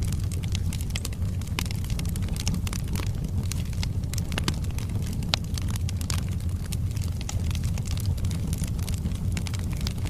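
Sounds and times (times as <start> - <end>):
logs crackling and popping: 0.0 - 10.0
low rumble of flames: 0.0 - 10.0.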